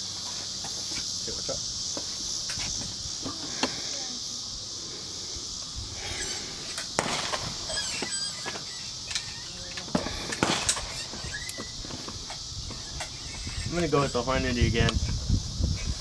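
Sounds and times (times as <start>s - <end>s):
high-pitched insect chirring: 0.0s - 16.0s.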